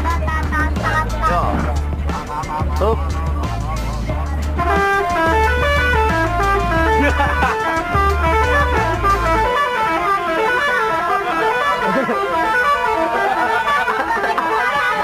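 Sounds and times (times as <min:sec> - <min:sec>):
musical bus horn melody: 0:00.0 - 0:15.0.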